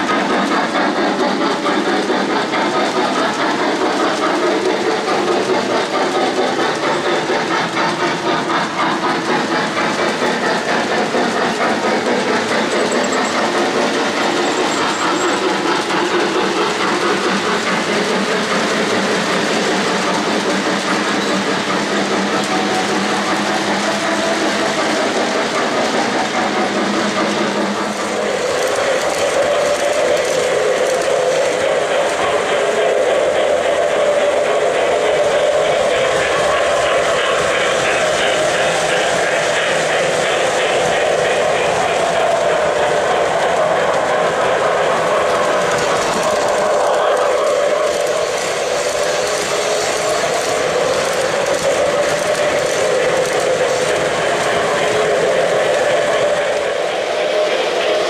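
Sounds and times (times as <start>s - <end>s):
metal wheels clicking on rails: 0.0s - 56.8s
model train cars rumbling: 0.0s - 58.0s.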